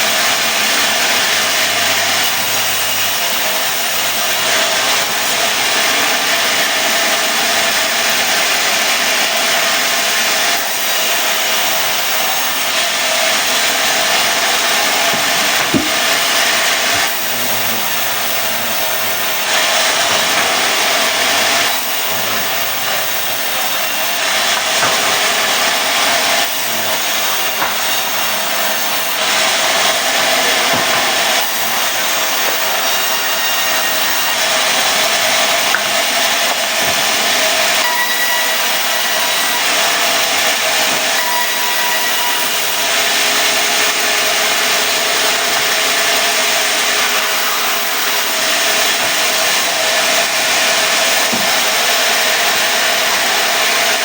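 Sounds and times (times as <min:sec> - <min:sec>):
sawmill blade cutting wood: 0:00.0 - 0:54.0.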